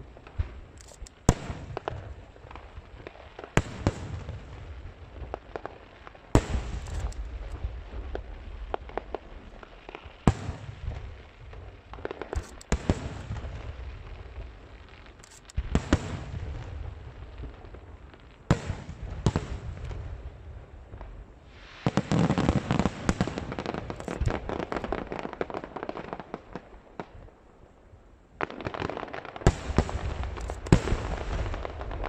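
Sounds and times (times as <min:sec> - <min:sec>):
fireworks bursting with bangs: 0:00.0 - 0:27.3, 0:28.4 - 0:32.0
fireworks crackling: 0:00.0 - 0:27.3, 0:28.4 - 0:32.0
small fireworks pops: 0:00.0 - 0:27.4, 0:28.4 - 0:32.0.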